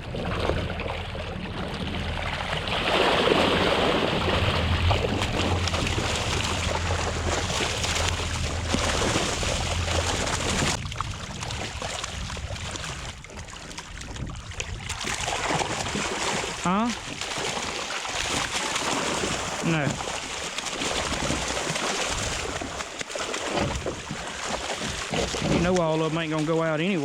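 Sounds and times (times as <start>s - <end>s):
outboard motor idling hum: 0.0s - 27.0s
water splashing and dripping: 0.0s - 27.0s.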